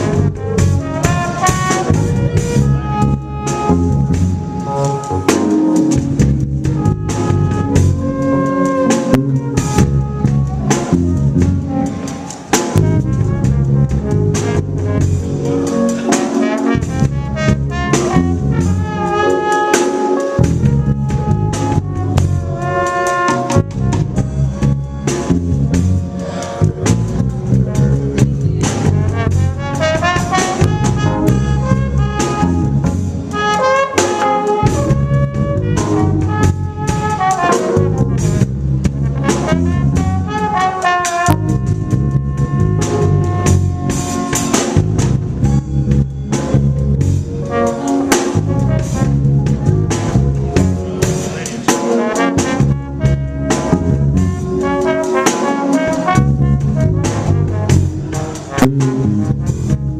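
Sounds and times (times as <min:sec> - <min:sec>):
live band with horns: 0:00.0 - 0:59.9.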